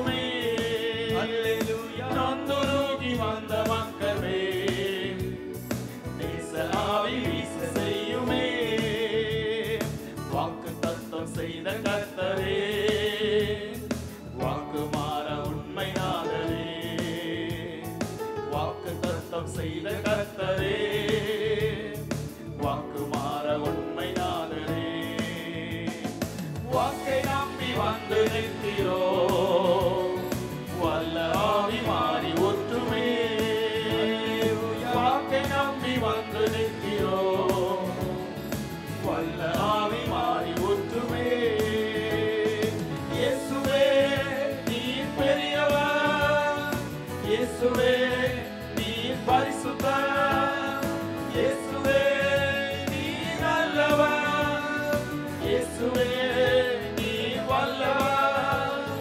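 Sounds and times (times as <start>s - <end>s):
musical accompaniment: 0.0s - 59.0s
people singing worship song: 0.0s - 59.0s.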